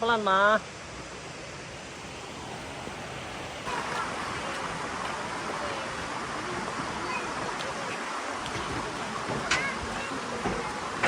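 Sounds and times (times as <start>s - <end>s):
rushing flowing water: 0.0s - 11.0s.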